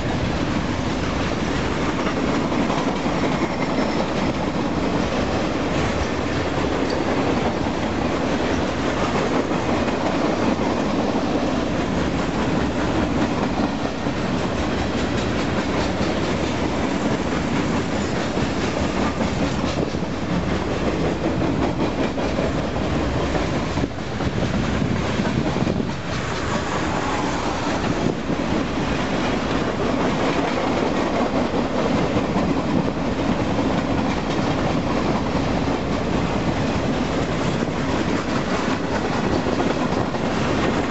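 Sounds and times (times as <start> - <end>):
train wheels rumbling on rail: 0.0 - 40.9
wheel clacks over rail joints: 1.0 - 40.9.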